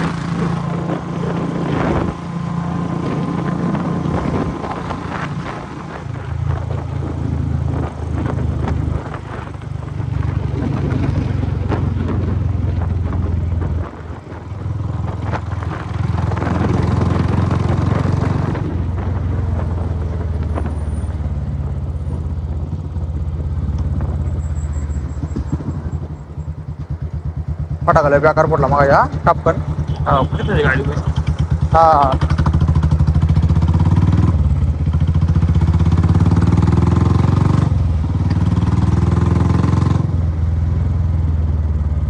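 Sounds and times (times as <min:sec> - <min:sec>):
motorcycle engine and exhaust: 0:00.0 - 0:42.0.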